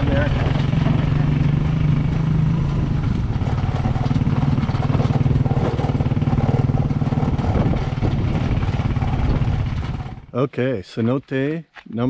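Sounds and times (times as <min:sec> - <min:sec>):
small motorcycle engine puttering: 0:00.0 - 0:10.3.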